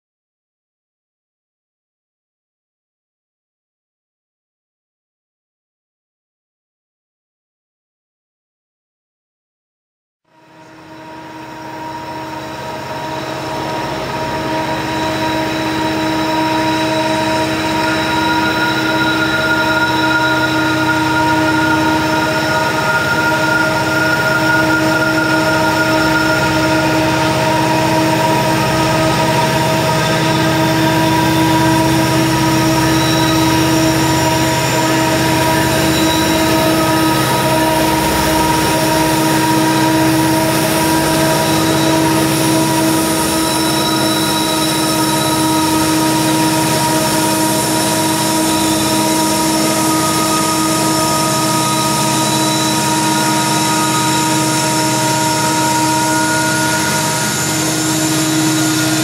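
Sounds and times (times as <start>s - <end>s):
diesel locomotive engines rumbling: 10.4s - 59.0s
whining tones: 10.4s - 59.0s.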